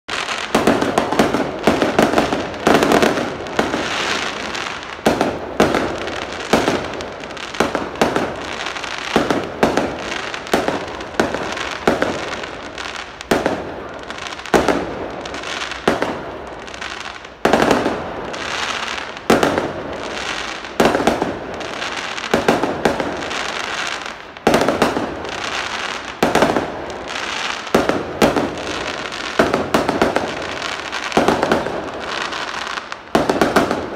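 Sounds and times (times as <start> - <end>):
fireworks bangs: 0.1 - 33.9.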